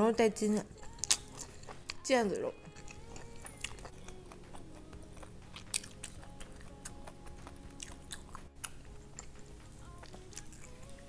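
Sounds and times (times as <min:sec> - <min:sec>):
quiet background music: 0:00.0 - 0:11.0
mouth chewing clicks and smacks: 0:00.8 - 0:02.0, 0:02.6 - 0:11.0.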